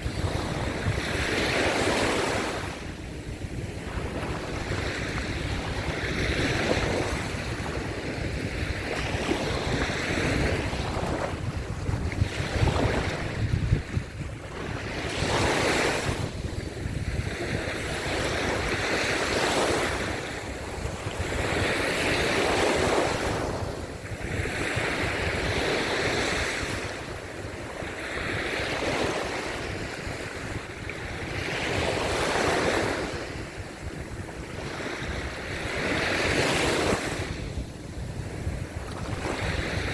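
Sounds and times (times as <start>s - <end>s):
waves breaking on beach: 0.0s - 39.9s
wind buffeting microphone: 0.0s - 39.9s.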